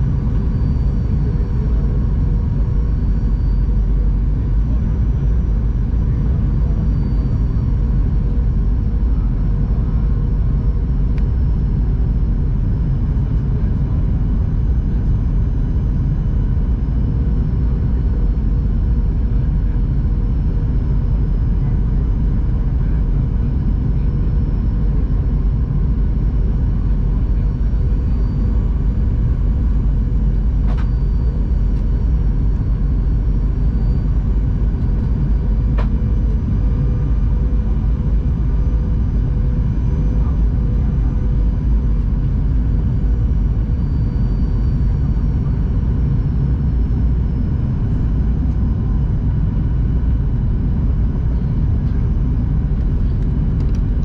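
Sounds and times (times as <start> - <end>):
faint steady hum: 0.0 - 54.0
jet engine rumble: 0.0 - 54.0.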